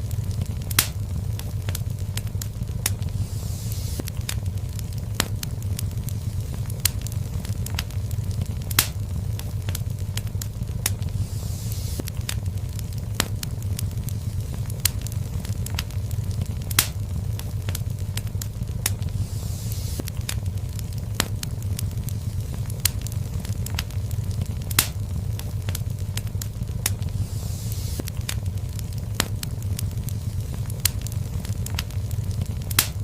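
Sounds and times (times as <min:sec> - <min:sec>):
fire crackling and popping: 0:00.0 - 0:33.0
fire flames rumbling: 0:00.0 - 0:33.0
soft hiss: 0:00.0 - 0:33.0.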